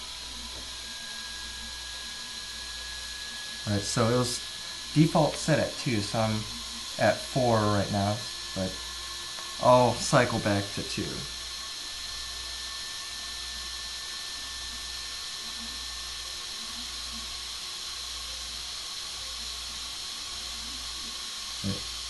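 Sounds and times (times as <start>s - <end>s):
small cooling fan whirring: 0.0s - 22.0s.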